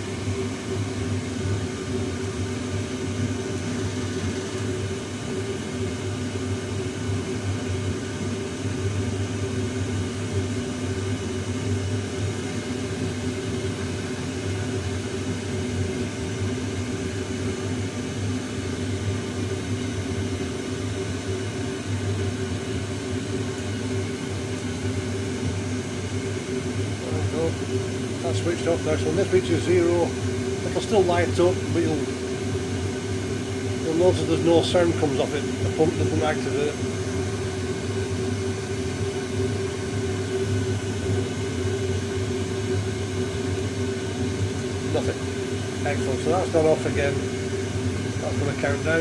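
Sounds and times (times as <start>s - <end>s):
boiler mechanical hum: 0.0s - 49.0s.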